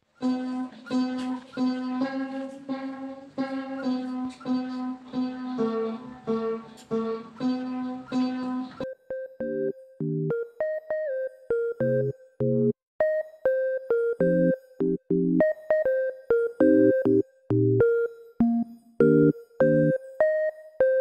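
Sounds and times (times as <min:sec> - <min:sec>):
synthesizer melody with beeps: 0:00.2 - 0:21.0.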